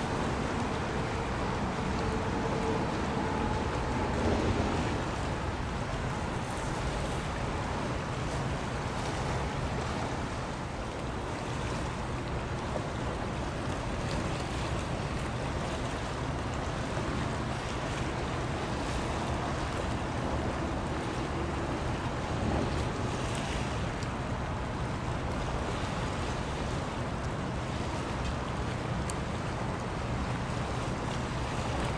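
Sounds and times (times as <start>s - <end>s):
wind and sea water rushing: 0.0s - 31.9s
wind rumble on microphone: 0.0s - 31.9s.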